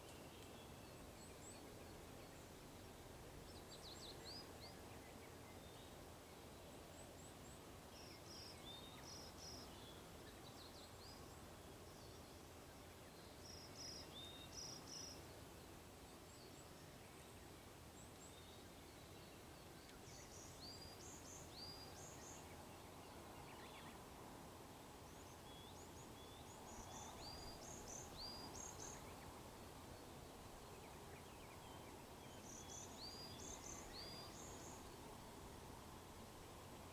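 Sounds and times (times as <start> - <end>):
faint songbird song: 0.0 - 36.9.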